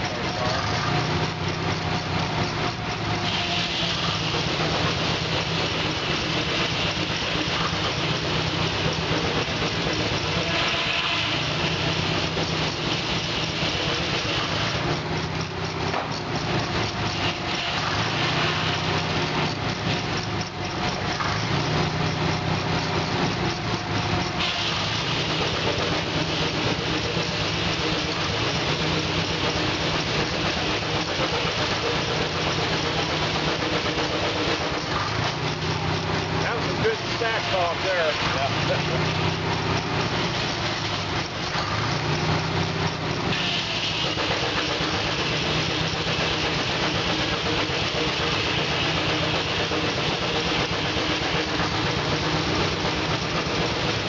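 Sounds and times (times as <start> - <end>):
steam traction engine running: 0.0 - 54.0
rushing steam hiss: 3.0 - 14.8, 17.0 - 20.1, 24.2 - 54.0.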